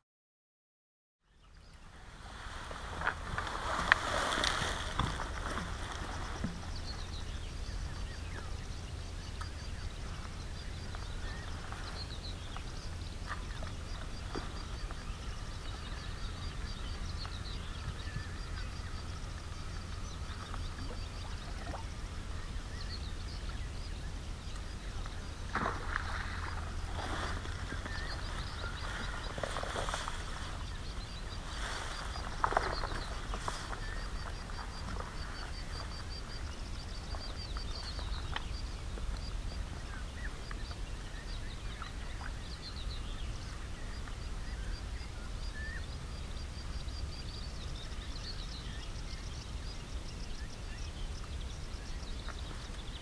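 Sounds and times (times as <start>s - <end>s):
wind rumble on microphone: 1.4s - 53.0s.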